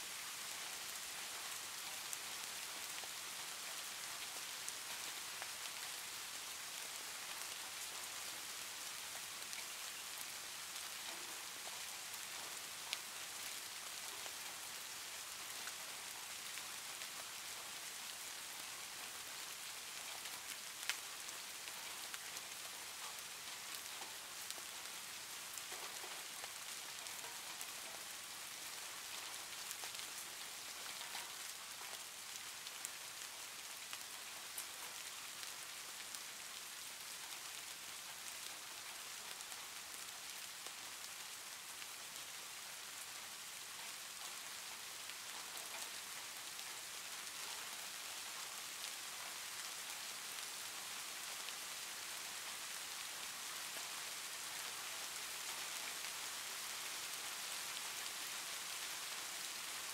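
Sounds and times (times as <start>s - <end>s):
rain hissing and pattering: 0.0s - 59.9s.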